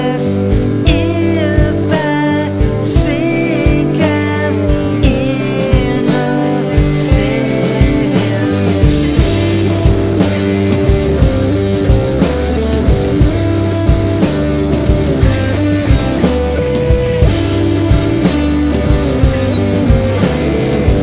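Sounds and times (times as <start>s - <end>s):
drum kit steady beat: 0.0s - 21.0s
rock guitars: 0.0s - 21.0s.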